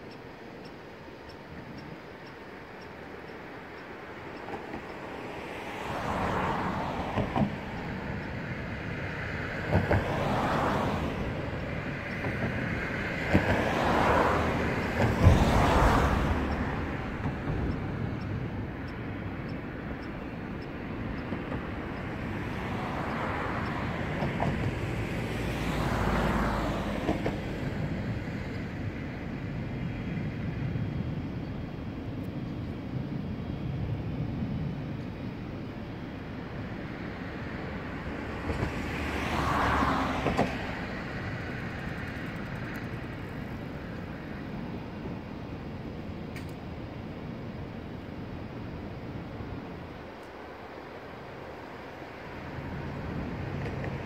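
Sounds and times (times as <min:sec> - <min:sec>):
urban traffic background: 0:00.0 - 0:54.0
vehicles passing: 0:00.0 - 0:54.0.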